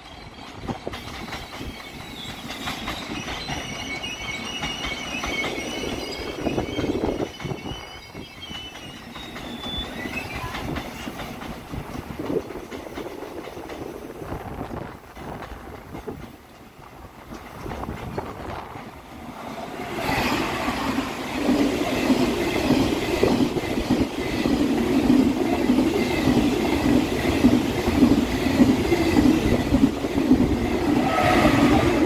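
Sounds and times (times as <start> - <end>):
train rail running noise: 0.0 - 32.0.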